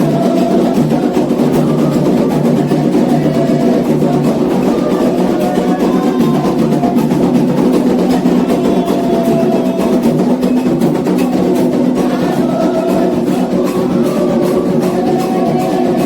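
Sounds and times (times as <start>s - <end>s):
hand drums playing steady rhythm: 0.0s - 16.0s.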